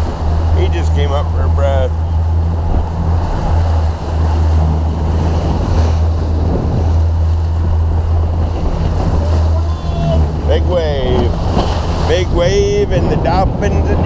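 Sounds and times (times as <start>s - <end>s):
boat engine humming: 0.0s - 14.0s
water rushing past hull: 0.0s - 14.0s
wind buffeting microphone: 0.0s - 14.0s.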